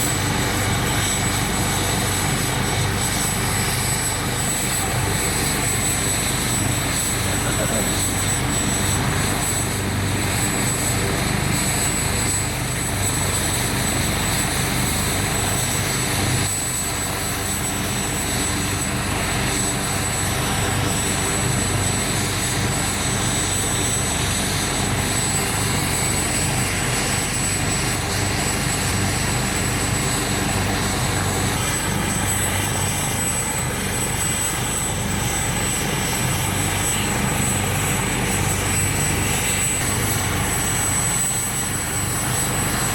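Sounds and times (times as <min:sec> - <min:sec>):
helicopter rotors droning: 0:00.0 - 0:42.9.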